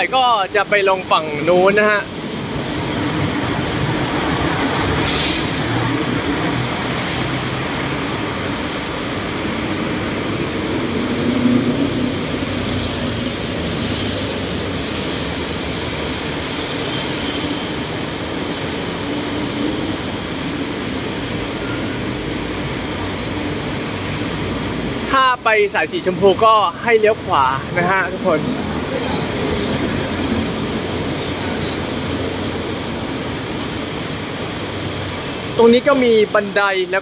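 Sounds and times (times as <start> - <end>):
road and rail traffic roar: 0.0 - 37.0.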